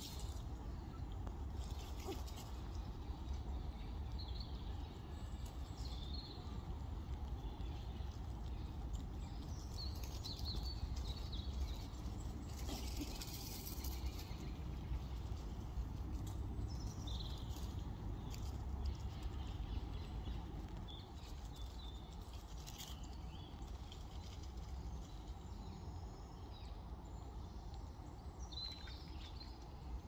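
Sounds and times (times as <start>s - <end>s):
squirrels rustling in dry leaves: 0.0s - 30.0s.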